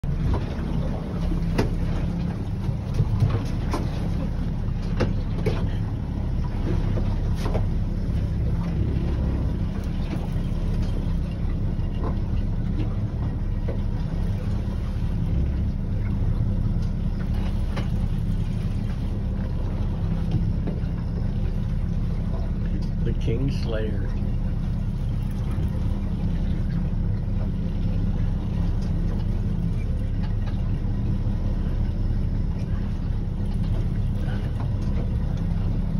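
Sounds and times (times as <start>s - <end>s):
boat engine humming: 0.0s - 35.9s.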